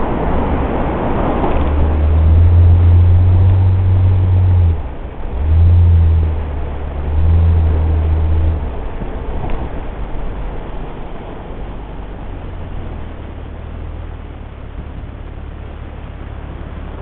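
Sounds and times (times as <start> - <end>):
car engine droning hum: 0.0 - 17.0
tyre and road noise: 0.0 - 17.0.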